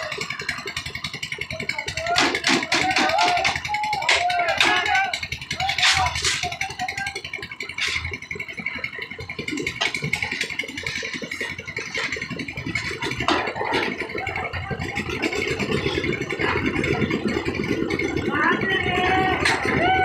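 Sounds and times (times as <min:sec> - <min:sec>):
concrete mixer engine running: 0:00.0 - 0:20.0.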